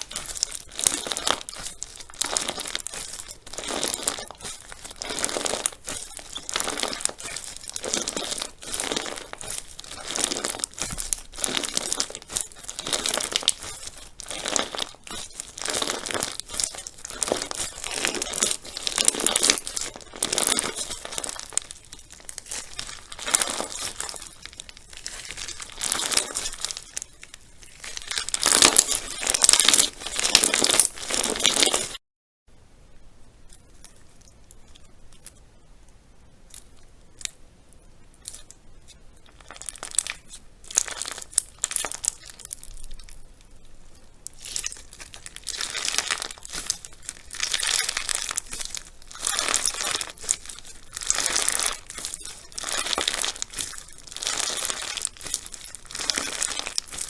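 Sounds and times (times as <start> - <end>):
slime crackling and popping: 0.0 - 32.0, 36.4 - 57.0.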